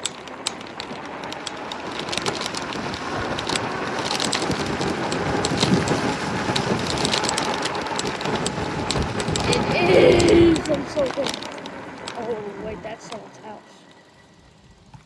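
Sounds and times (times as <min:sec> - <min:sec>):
wind on microphone: 0:00.0 - 0:13.0
small clicks and rattles: 0:00.0 - 0:14.8
rolling tyre noise: 0:00.0 - 0:15.0.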